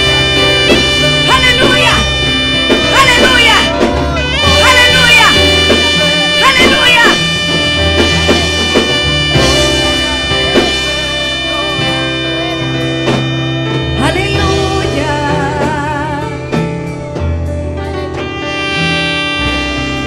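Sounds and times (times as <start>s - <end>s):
band accompaniment: 0.0s - 20.0s
melody line with vibrato: 0.0s - 20.0s.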